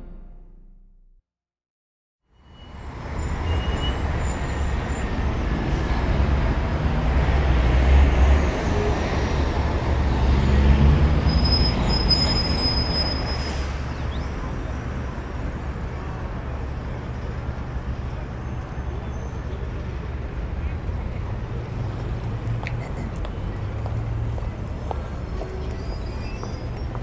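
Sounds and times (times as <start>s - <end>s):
traffic rumble: 2.7s - 27.0s.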